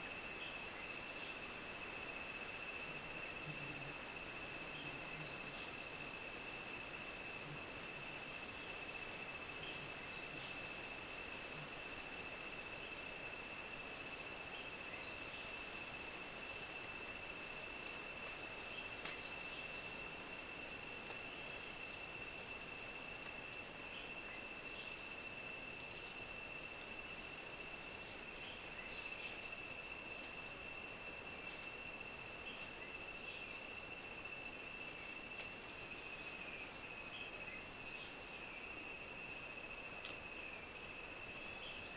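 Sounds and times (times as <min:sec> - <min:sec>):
faint insect chirps: 0:00.0 - 0:41.9
insects buzzing: 0:00.0 - 0:41.9.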